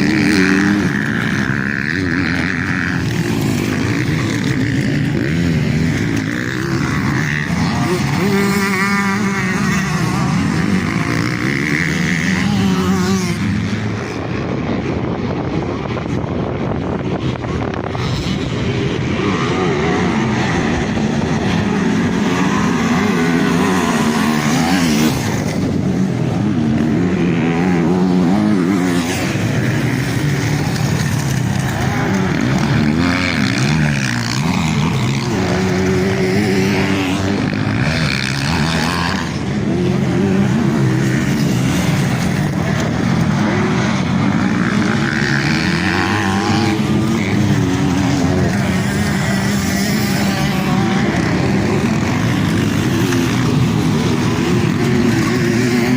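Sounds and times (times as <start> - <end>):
motocross bikes revving: 0.0 - 55.9.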